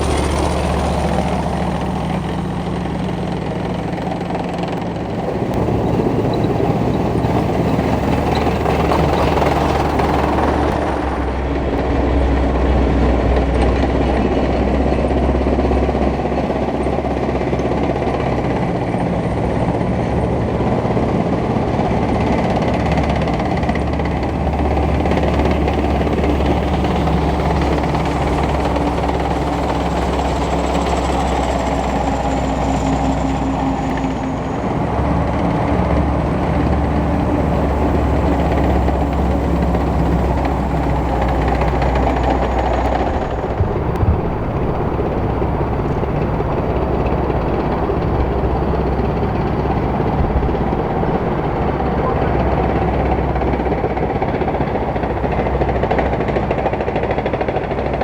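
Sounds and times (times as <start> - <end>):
steel tracks clattering: 0.0 - 58.0
tank diesel engine running: 0.0 - 58.0.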